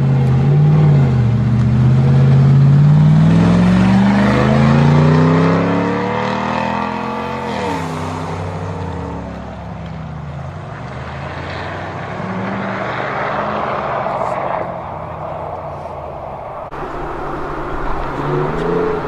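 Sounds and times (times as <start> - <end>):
truck engine accelerating: 0.0 - 19.0.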